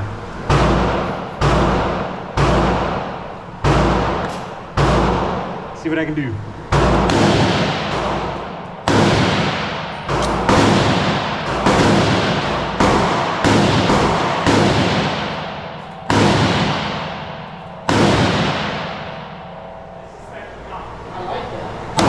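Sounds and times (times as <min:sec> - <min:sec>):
pistol shots with echo: 0:00.5 - 0:05.8, 0:06.7 - 0:20.0.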